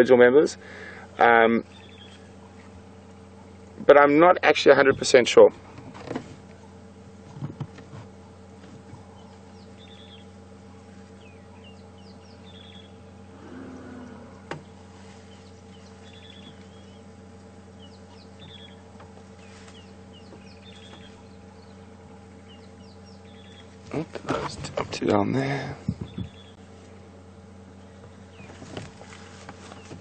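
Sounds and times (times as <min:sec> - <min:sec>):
steady low hum: 0:00.0 - 0:30.0
bird calling: 0:00.6 - 0:03.7, 0:08.2 - 0:30.0.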